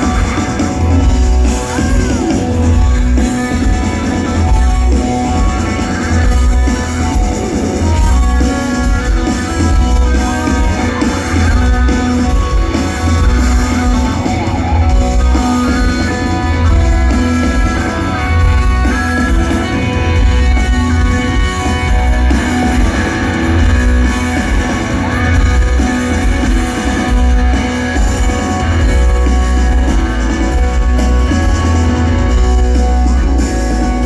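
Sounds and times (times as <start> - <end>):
bass guitar: 0.0 - 34.0
drums: 0.0 - 34.0
electric guitars: 0.0 - 34.0.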